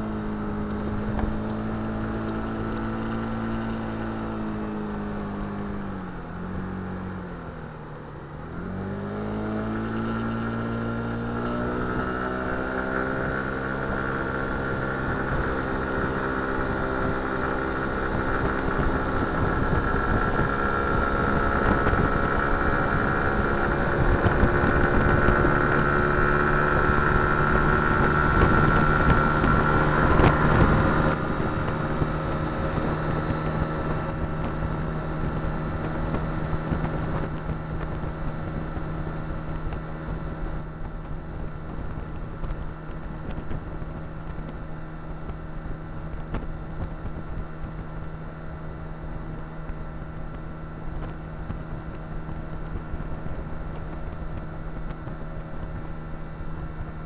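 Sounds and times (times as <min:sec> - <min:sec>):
scooter engine pulling steadily: 0:00.0 - 0:57.0
wind and road noise: 0:00.0 - 0:57.0.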